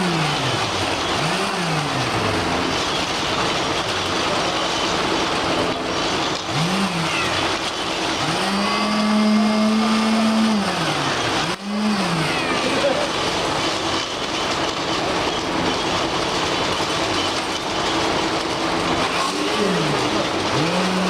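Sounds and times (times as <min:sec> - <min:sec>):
steady mechanical rumble: 0:00.0 - 0:09.8, 0:10.4 - 0:21.0
machine engine revving: 0:00.0 - 0:21.0.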